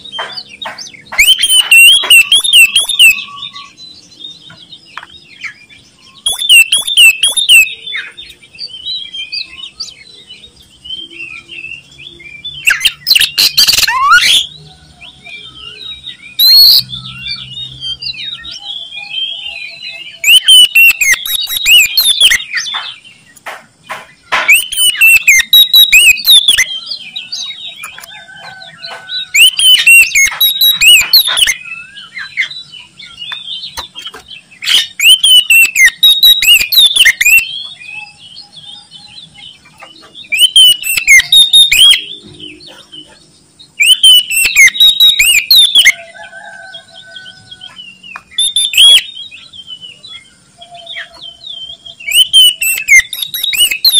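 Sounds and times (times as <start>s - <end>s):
bird singing varied phrases: 0.0s - 53.9s
soft bird chirps: 0.0s - 53.9s.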